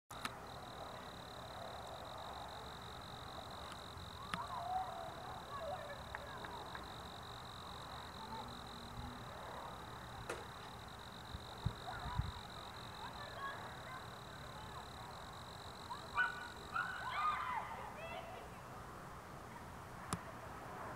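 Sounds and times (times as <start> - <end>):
steady high-pitched whine: 0.1 - 17.7
background hiss: 0.1 - 19.4
distant children shouting and screaming: 0.2 - 18.6.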